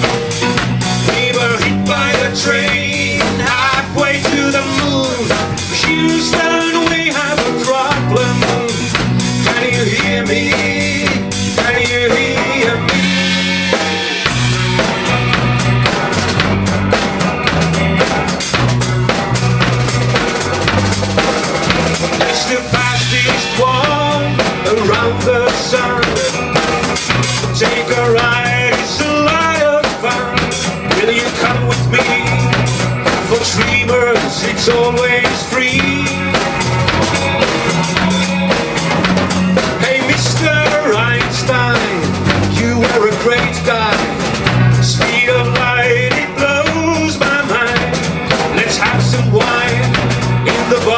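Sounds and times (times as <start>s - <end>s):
drum kit: 0.0s - 50.9s
electric bass: 0.0s - 50.9s
electric guitar: 0.0s - 50.9s
pitch-bending lead melody: 0.0s - 50.9s.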